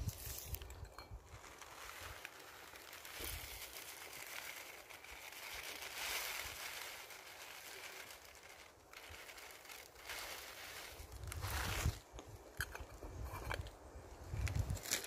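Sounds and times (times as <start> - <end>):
small fire hissing and crackling: 0.0 - 12.7
handling rustle: 0.0 - 15.0.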